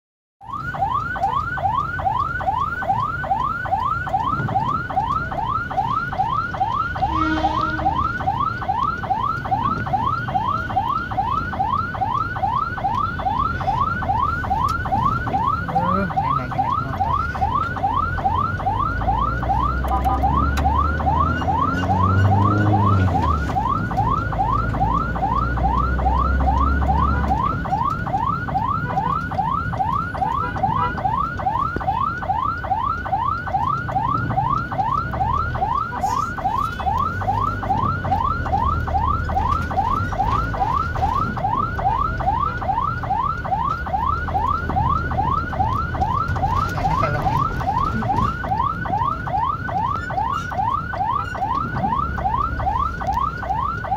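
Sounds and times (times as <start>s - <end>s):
ambulance siren yelping: 0.4s - 53.9s.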